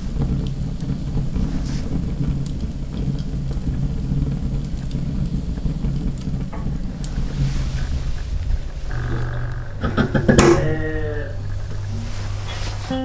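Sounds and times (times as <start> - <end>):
flames rumbling in stove: 0.0 - 13.0
logs crackling and popping: 0.0 - 13.0.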